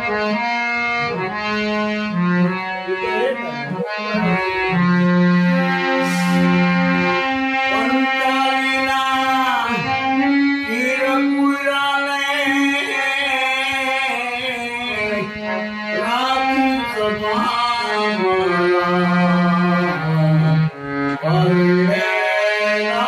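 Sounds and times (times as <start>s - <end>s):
harmonium playing held notes: 0.0s - 23.0s
man singing devotional song: 2.6s - 23.0s.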